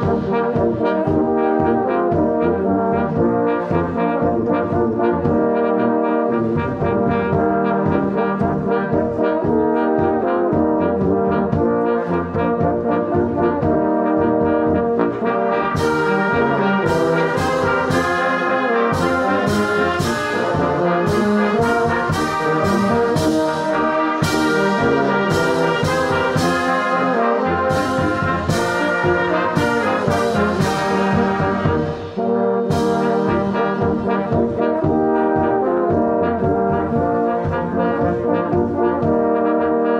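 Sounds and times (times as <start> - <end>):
brass band playing a hymn: 0.0 - 39.9
percussion strikes: 6.6 - 39.2.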